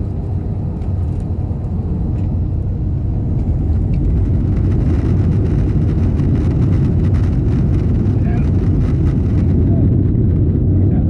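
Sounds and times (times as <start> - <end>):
jet engines and wheels rumbling: 0.0 - 11.0.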